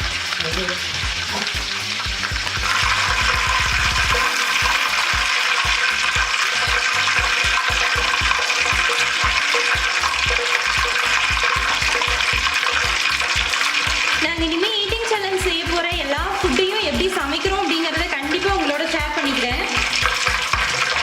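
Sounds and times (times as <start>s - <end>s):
background music beat: 0.0s - 21.0s
meat deep-frying in oil: 0.0s - 21.0s.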